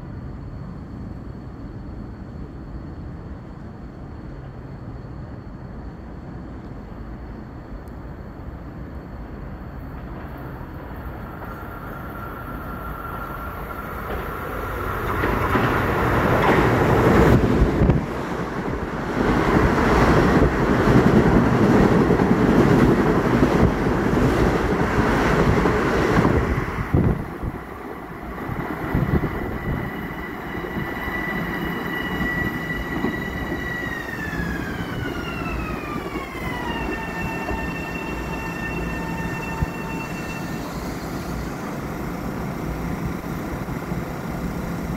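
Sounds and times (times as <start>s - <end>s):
electric train passing at speed: 0.0s - 44.9s
high electric whine of braking train: 0.0s - 44.9s.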